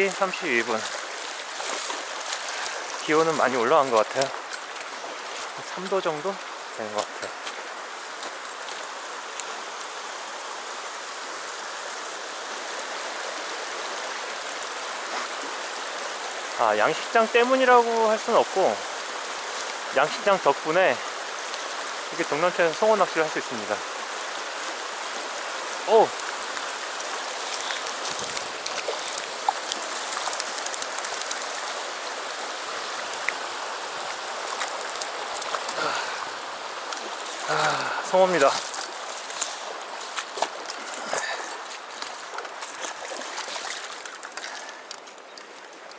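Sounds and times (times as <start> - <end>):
water rushing over rocks: 0.0 - 45.9.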